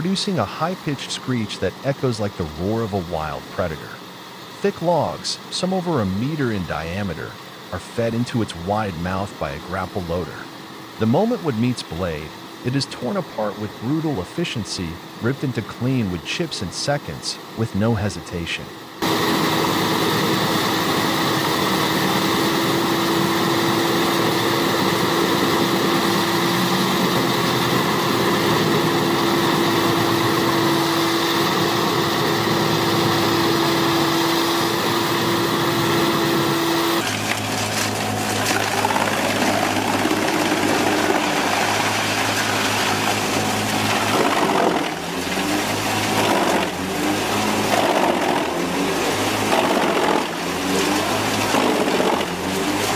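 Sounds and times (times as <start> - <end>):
wood chipper droning: 0.0 - 52.9.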